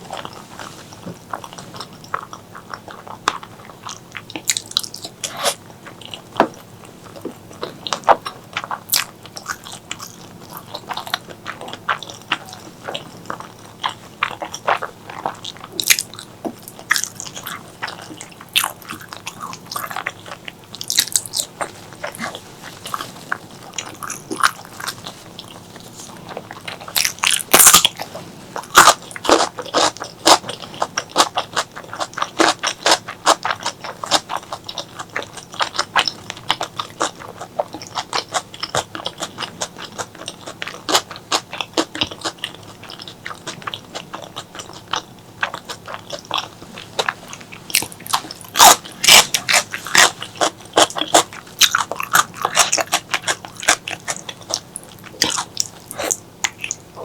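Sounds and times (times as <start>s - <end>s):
close chewing and mouth clicks: 0.0s - 57.0s.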